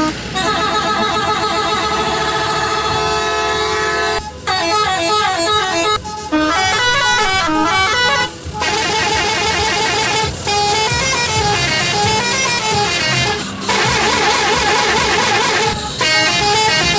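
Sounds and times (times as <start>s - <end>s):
multi-tone horn playing a tune: 0.0s - 16.9s.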